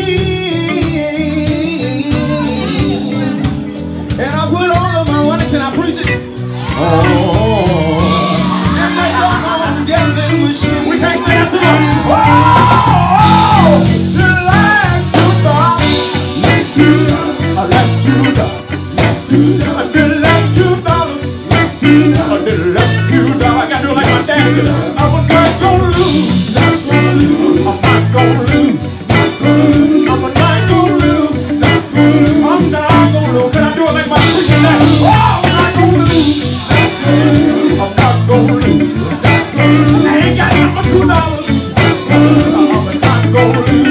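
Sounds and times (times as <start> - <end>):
drum kit: 0.0 - 43.9
electric guitars: 0.0 - 43.9
person singing: 0.0 - 43.9.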